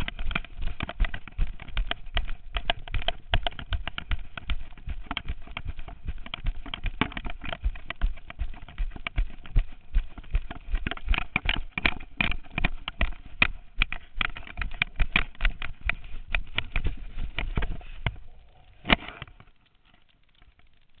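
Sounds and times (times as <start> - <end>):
camera knocking and scraping: 0.0 - 20.8.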